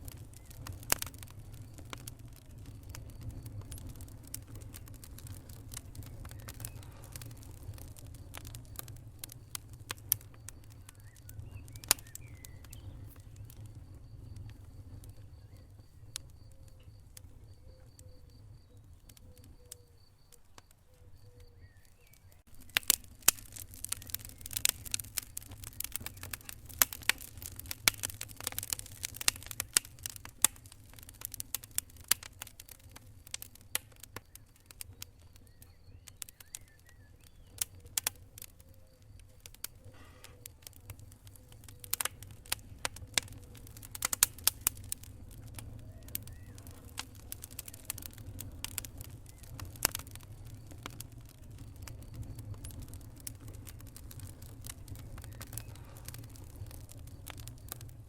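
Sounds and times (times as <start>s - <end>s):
fire crackling and popping: 0.0s - 58.0s
fire low rumble: 0.0s - 58.0s.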